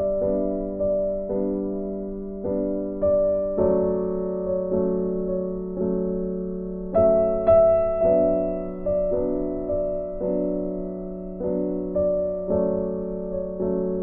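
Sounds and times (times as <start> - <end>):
slow piano piece: 0.0 - 14.0.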